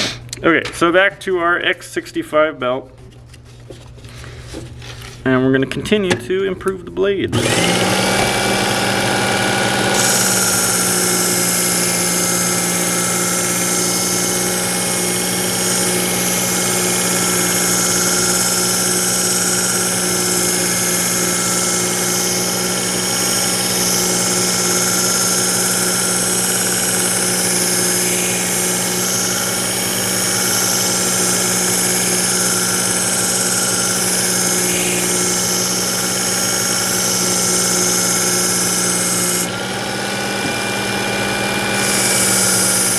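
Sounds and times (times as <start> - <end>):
motor hum: 7.3 - 42.9.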